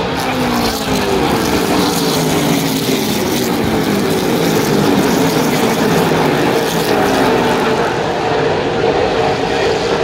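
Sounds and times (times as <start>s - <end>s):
race car engines droning past: 0.0s - 10.0s.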